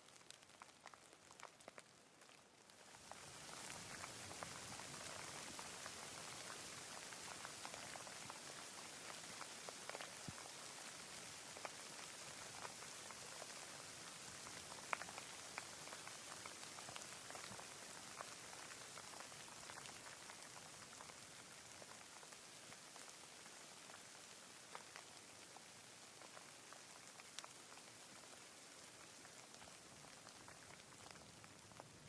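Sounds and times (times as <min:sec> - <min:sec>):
raindrops ticking: 0:00.0 - 0:32.0
steady rain hiss: 0:00.0 - 0:32.0.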